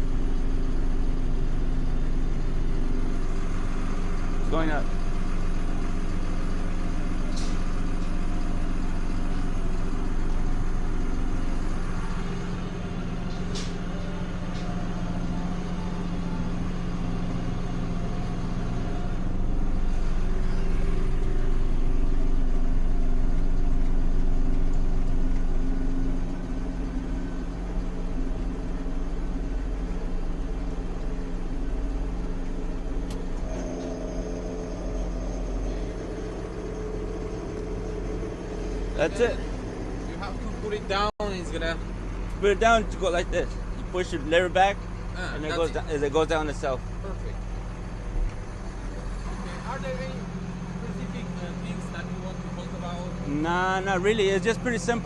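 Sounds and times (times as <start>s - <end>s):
diesel truck engine running: 0.0s - 55.0s
hydraulic pump whine: 0.0s - 55.0s.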